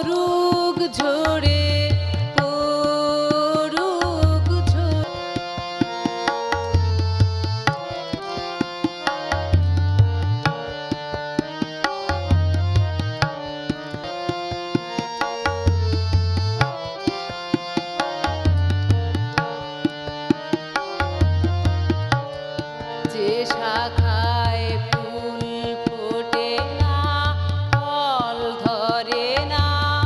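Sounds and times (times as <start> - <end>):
harmonium notes: 0.0 - 30.0
tabla strokes: 0.0 - 30.0.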